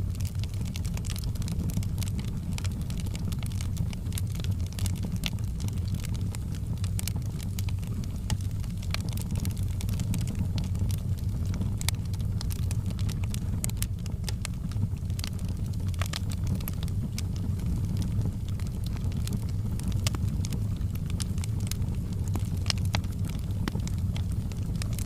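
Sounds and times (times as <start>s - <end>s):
fire crackling and popping: 0.0s - 25.0s.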